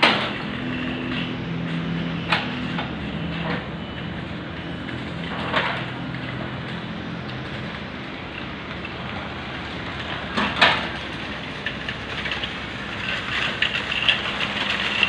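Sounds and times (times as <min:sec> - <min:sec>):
low mechanical hum: 0:00.0 - 0:15.0
metal cart rolling over asphalt: 0:00.0 - 0:15.0.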